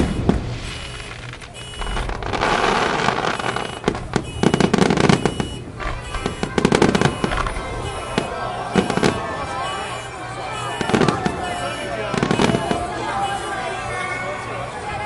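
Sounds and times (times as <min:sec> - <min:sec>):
fireworks bangs and crackling: 0:00.0 - 0:13.4.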